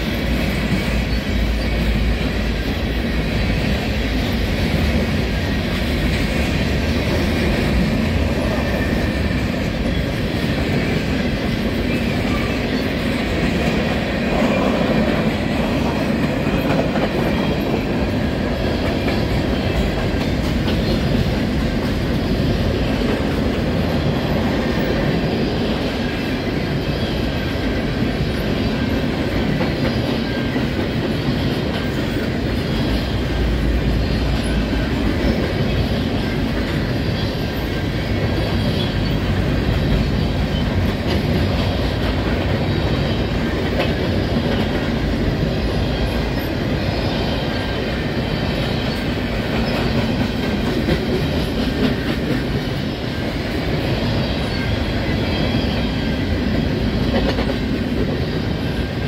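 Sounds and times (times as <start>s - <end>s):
freight train wheels rumbling: 0.0s - 59.0s
wheels clickety-clack: 0.0s - 59.0s.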